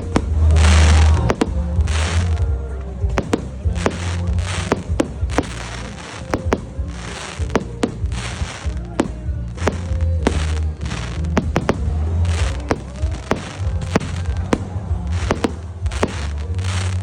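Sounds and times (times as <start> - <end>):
crackling hiss of fireworks: 0.0 - 17.0
fireworks bangs: 0.0 - 17.0
music playing: 0.0 - 17.0.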